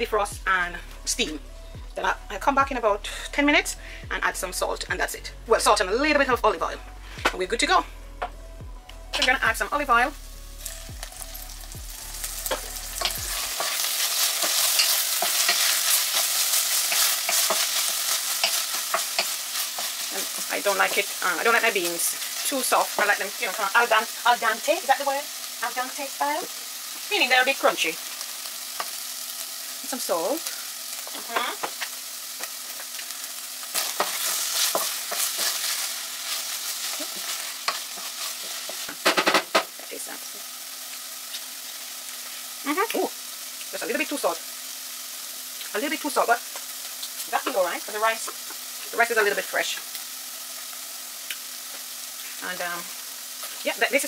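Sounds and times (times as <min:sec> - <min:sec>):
vegetables sizzling in a pot: 0:00.0 - 0:08.4, 0:09.1 - 0:54.0.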